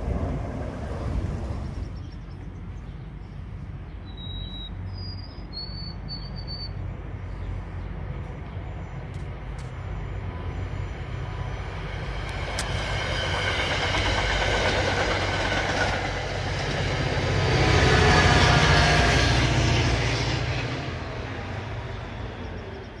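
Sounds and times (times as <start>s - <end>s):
train passing: 0.0s - 23.0s.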